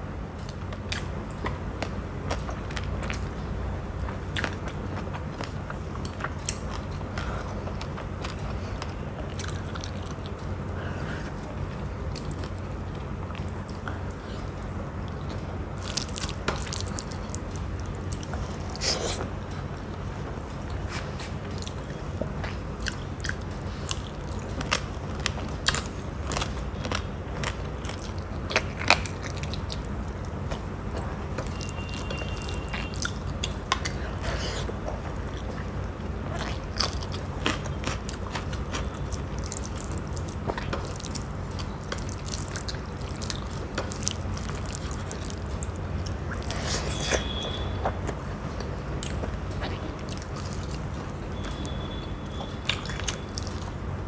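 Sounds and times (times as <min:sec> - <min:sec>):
steady low hum: 0:00.0 - 0:54.0
person chewing food: 0:00.4 - 0:53.8.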